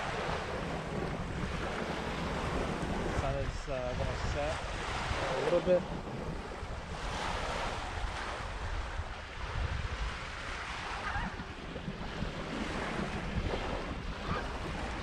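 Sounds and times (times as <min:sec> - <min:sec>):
small waves washing on beach: 0:00.0 - 0:15.0
wind buffeting microphone: 0:00.0 - 0:15.0.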